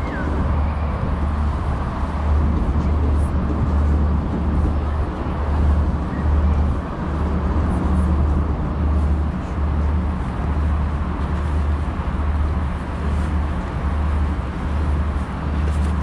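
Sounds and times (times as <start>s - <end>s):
city road traffic rumble: 0.0s - 16.0s.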